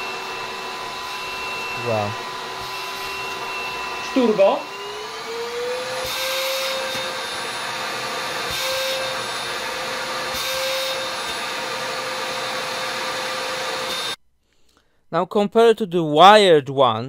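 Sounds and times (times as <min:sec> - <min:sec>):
vacuum motor whine: 0:00.0 - 0:14.2.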